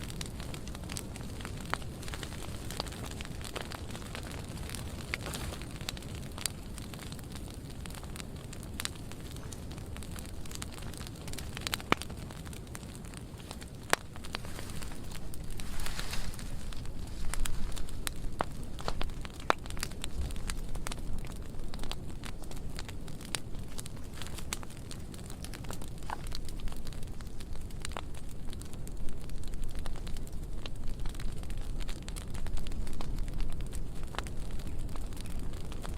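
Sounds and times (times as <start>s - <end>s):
fire low rumble: 0.0s - 35.9s
wood fire crackling and popping: 0.0s - 35.9s.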